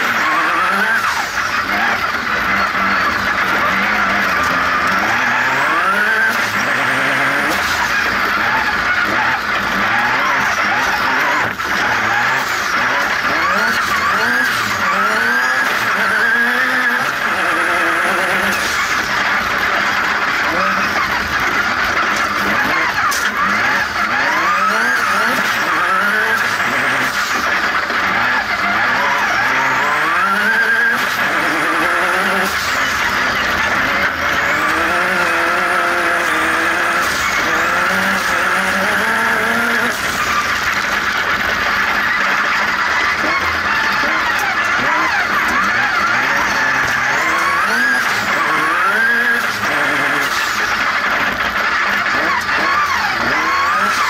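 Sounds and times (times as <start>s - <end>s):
buggy engine revving hard: 0.0s - 54.0s
gravel noise: 0.0s - 54.0s.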